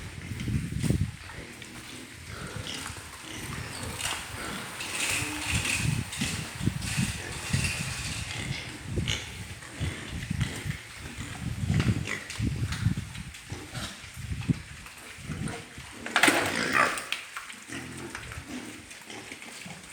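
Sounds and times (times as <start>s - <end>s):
pigs grunting: 0.0s - 14.2s, 15.0s - 19.9s.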